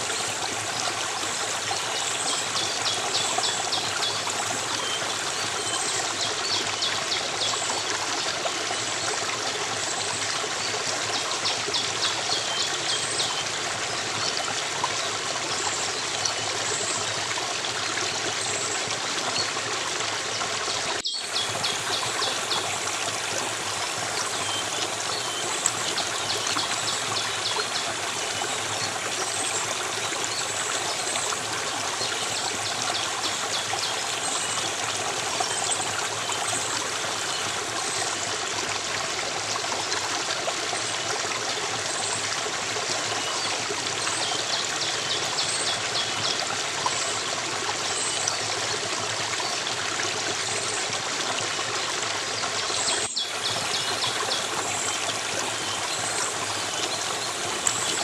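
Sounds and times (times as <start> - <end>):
stream water running: 0.0 - 58.0.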